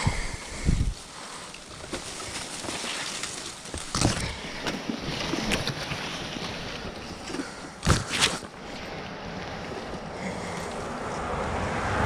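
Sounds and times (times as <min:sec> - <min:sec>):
leaves and brush rustling: 0:00.0 - 0:11.8.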